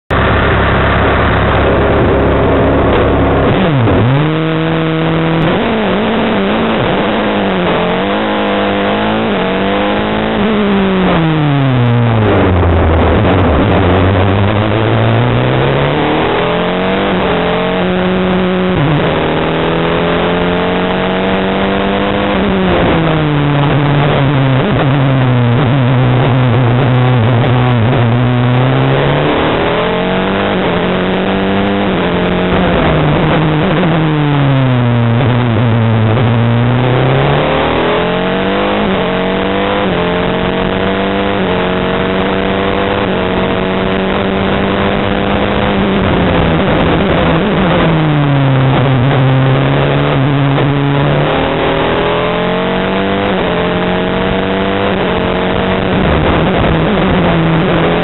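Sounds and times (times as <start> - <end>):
race car engine revving: 0.1 - 58.0.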